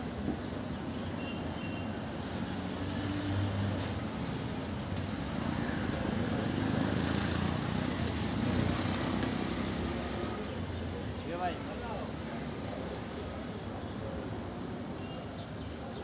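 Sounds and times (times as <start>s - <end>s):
busy market din: 0.0s - 16.0s.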